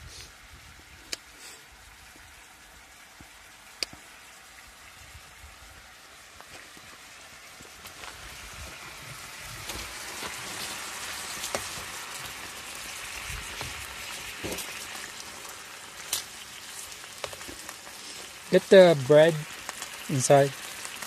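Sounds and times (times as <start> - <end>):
meat sizzling in a skillet: 0.1 - 21.0.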